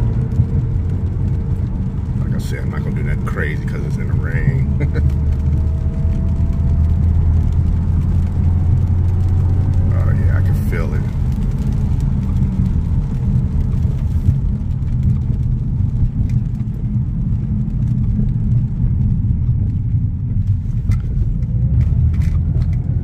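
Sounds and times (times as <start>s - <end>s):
car cabin engine rumble: 0.0s - 23.0s
tyres on wet road: 0.0s - 23.0s.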